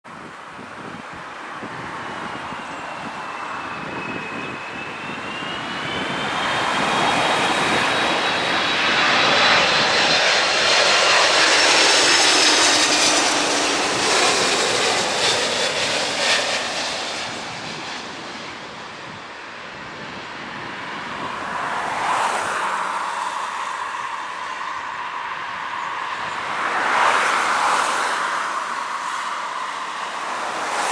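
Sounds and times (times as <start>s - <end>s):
jet airliner passing overhead: 0.1s - 30.9s.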